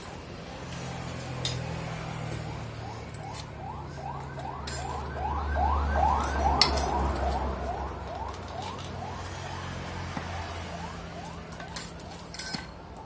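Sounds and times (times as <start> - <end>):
siren yelping: 2.0 - 13.0.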